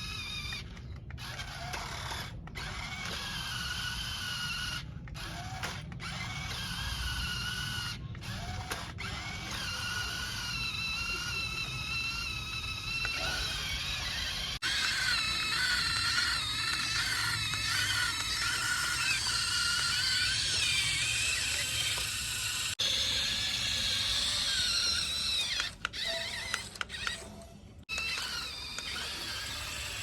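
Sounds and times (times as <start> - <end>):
toy electric motor whining: 0.0 - 30.0.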